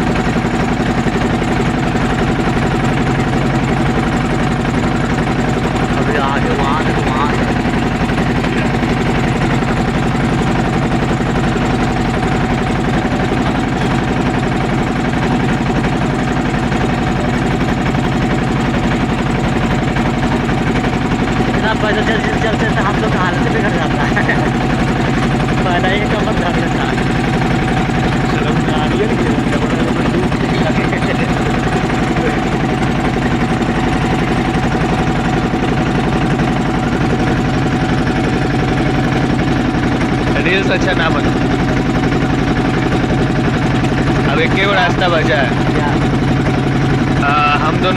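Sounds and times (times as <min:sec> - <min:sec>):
motorboat engine running: 0:00.0 - 0:47.9.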